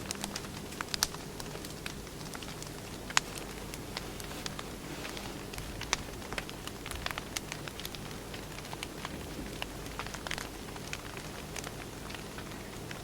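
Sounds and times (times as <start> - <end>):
fire hissing: 0.0 - 12.8
firewood crackling and popping: 0.0 - 13.0.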